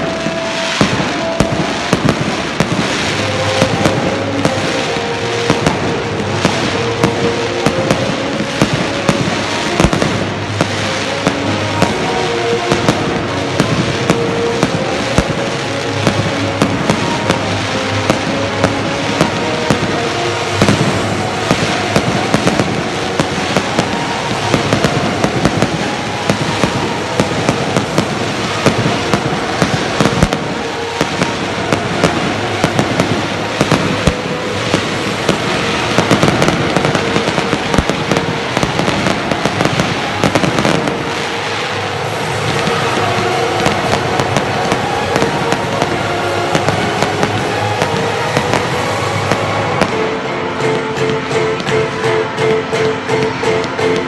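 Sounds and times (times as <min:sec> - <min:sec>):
fireworks crackling hiss: 0:00.0 - 0:54.0
fireworks cracks and bangs: 0:00.0 - 0:54.0.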